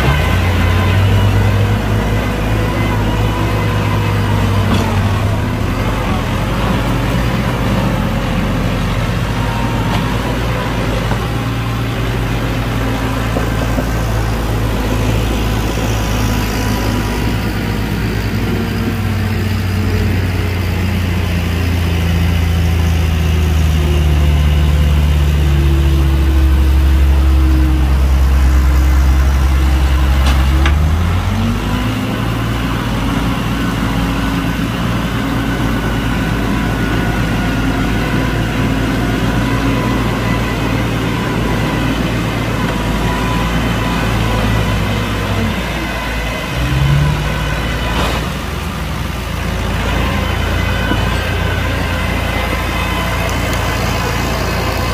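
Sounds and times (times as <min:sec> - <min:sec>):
heavy diesel engine running: 0:00.0 - 0:54.9.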